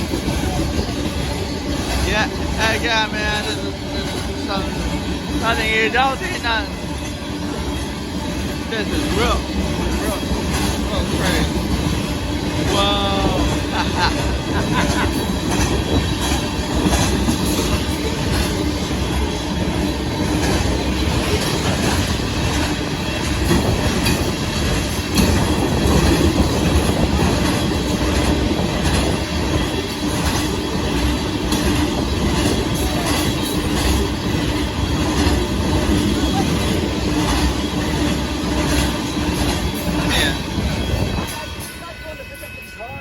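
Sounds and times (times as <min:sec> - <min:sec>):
wheels clattering on rails: 0:00.0 - 0:42.4
freight train rolling past: 0:00.0 - 0:43.0.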